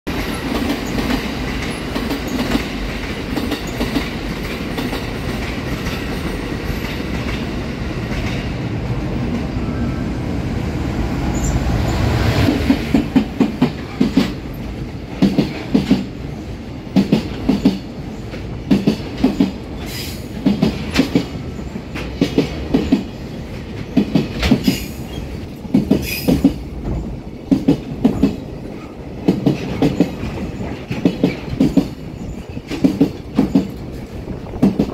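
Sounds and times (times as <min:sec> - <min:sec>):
wheels clacking over rail joints: 0:00.1 - 0:08.6, 0:11.9 - 0:16.3, 0:16.9 - 0:34.9
train rumble: 0:00.1 - 0:34.9.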